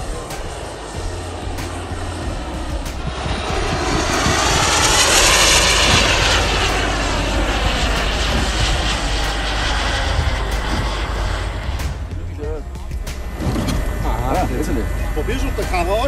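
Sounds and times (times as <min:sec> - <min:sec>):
model jet flying past: 0:00.0 - 0:16.0.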